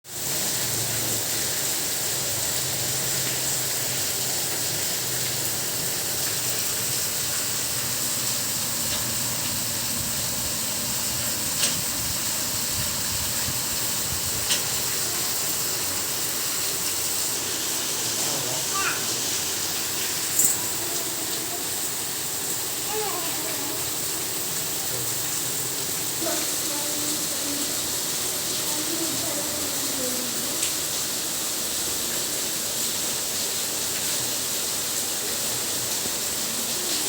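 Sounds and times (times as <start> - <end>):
steady rain hissing: 0.0 - 37.0.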